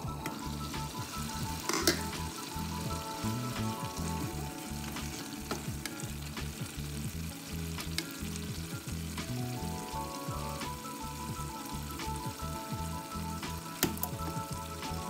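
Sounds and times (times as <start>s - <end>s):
soft background music: 0.0s - 15.0s
stew simmering and bubbling: 0.0s - 15.0s.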